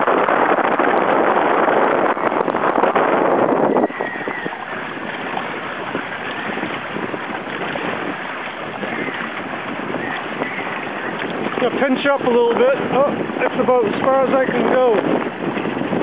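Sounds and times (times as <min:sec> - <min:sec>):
water rushing past a hull: 0:00.0 - 0:16.0
wind buffeting microphone: 0:00.0 - 0:16.0.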